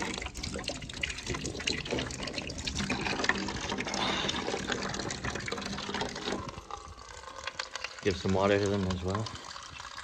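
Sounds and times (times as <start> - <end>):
water trickling into container: 0.0 - 10.0.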